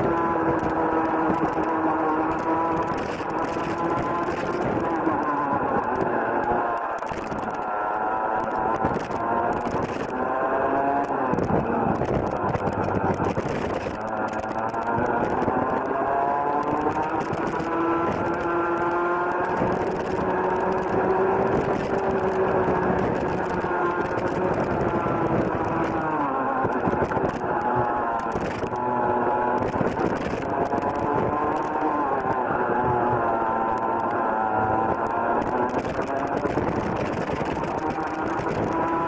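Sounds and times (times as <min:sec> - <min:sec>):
kart engine revving: 0:00.0 - 0:39.0.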